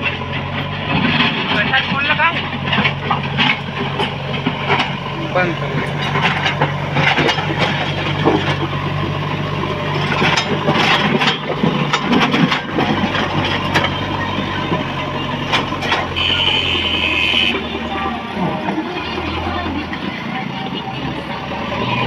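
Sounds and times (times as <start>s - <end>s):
metal clanks and knocks: 0.0s - 20.2s
diesel engine running: 0.0s - 22.0s
loader bucket pushing soil and stone: 0.0s - 22.0s.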